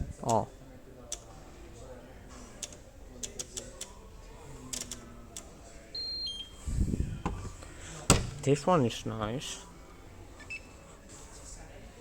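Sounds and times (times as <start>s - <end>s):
shop background noise: 0.0s - 12.0s.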